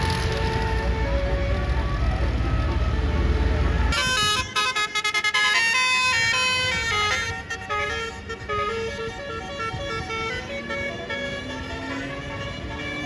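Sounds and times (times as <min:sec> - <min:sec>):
bus horn playing melody: 0:00.0 - 0:13.0.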